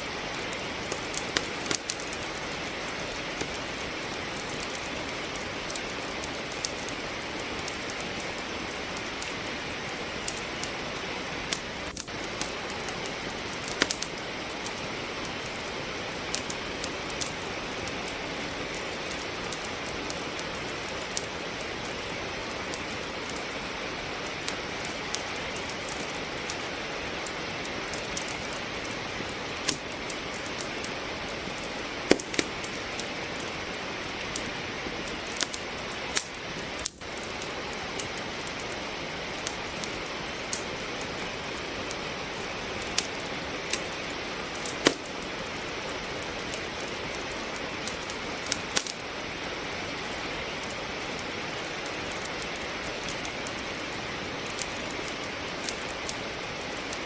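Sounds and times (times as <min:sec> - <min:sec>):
steady rain falling: 0:00.0 - 0:57.0
wood fire crackling: 0:00.0 - 0:57.0.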